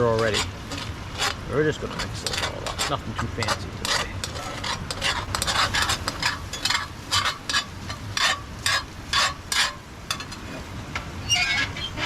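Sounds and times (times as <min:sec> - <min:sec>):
food sizzling: 0:00.0 - 0:12.0
utensil scraping frying pan: 0:00.0 - 0:12.0.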